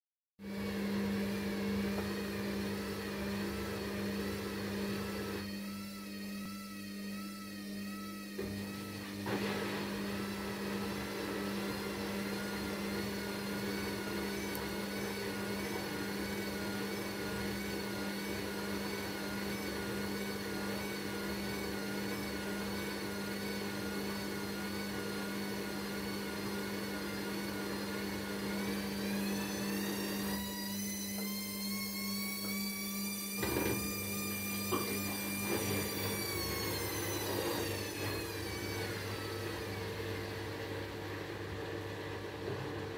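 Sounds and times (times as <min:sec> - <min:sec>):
washing machine running: 0:00.5 - 0:42.9.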